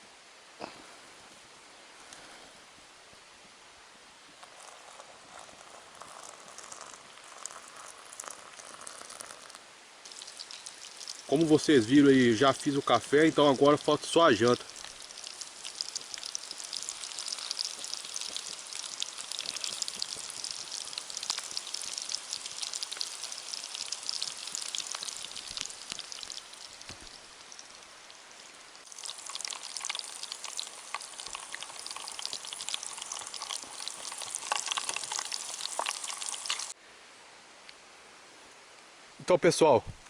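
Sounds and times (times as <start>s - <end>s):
food sizzling in oil: 4.5s - 36.8s.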